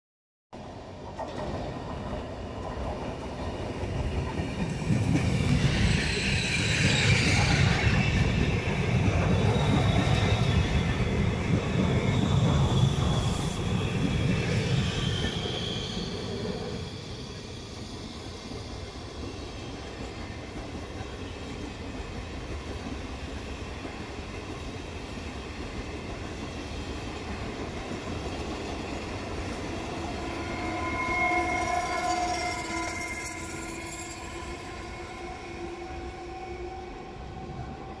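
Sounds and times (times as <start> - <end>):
train wheels rumbling on rails: 0.6 - 38.0.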